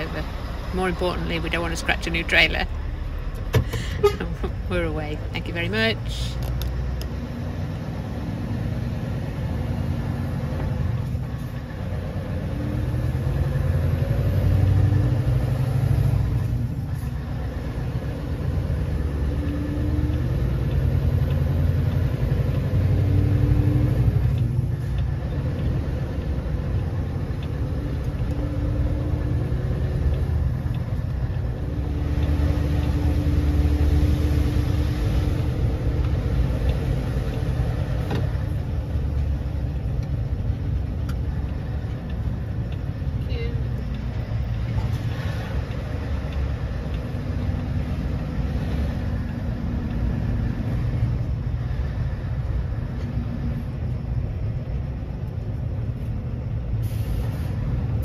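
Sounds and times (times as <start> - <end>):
lorry diesel engine rumble: 0.0 - 58.0
road noise: 0.0 - 58.0.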